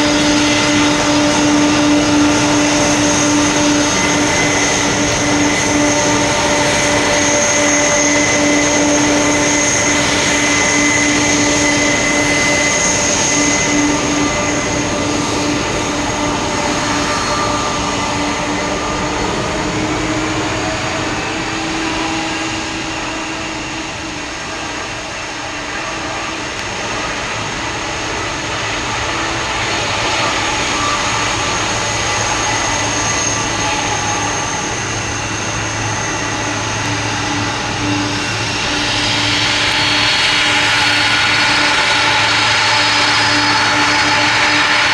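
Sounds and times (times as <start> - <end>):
jet engine turbine whine: 0.0 - 44.9.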